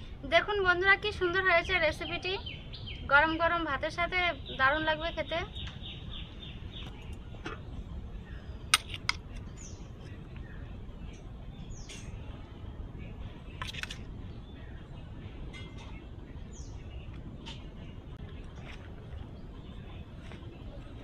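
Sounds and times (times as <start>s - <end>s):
outdoor background noise: 0.0s - 21.0s
small birds chirping: 1.7s - 21.0s.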